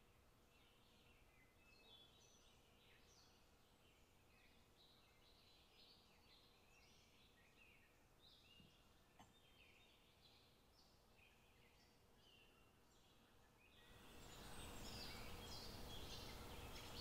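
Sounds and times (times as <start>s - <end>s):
birds chirping and warbling: 0.0s - 17.0s
low background hiss: 0.0s - 17.0s.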